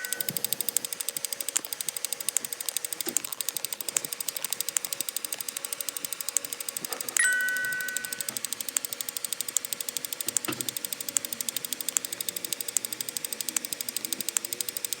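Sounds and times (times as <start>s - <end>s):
rapid ticking clicks: 0.0s - 15.0s.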